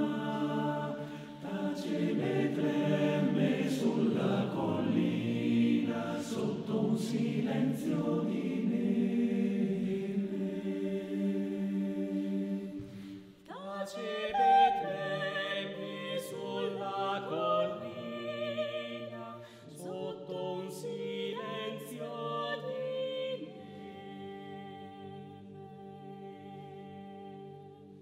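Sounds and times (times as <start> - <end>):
male choir singing a cappella: 0.0 - 28.0.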